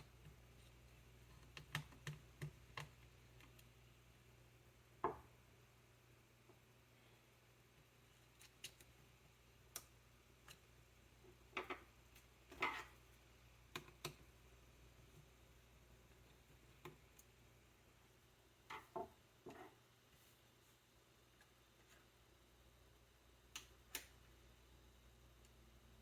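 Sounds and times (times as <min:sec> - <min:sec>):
quiet room hum: 0:00.0 - 0:26.0.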